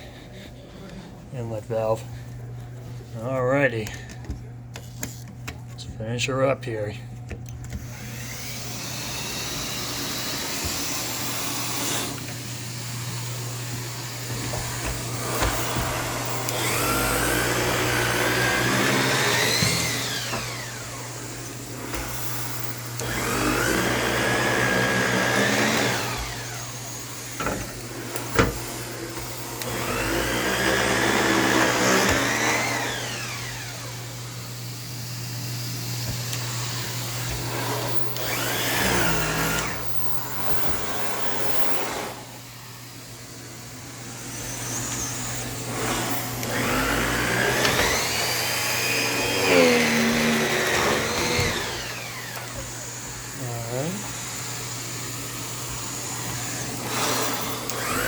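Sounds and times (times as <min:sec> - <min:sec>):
vacuum cleaner running: 0:00.0 - 0:06.0, 0:06.6 - 0:58.0.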